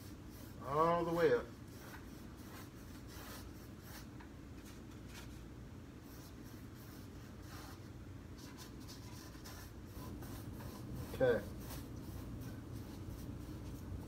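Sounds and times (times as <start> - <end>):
low room hum: 0.0 - 14.0
paintbrush scraping on canvas: 0.0 - 14.0.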